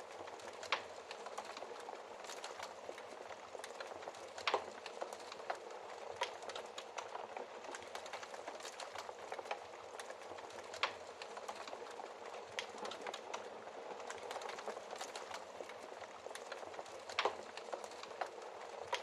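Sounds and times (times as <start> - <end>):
wood fire crackling: 0.0 - 19.0
fire pops and snaps: 0.2 - 19.0.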